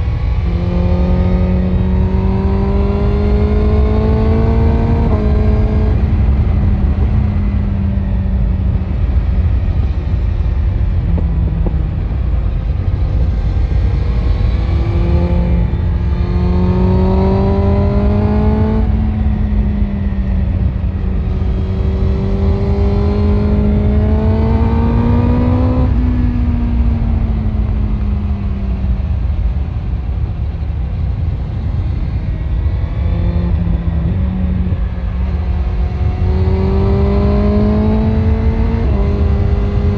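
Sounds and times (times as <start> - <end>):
motorcycle engine accelerating: 0.0 - 39.9
wind rushing on microphone: 0.0 - 39.9.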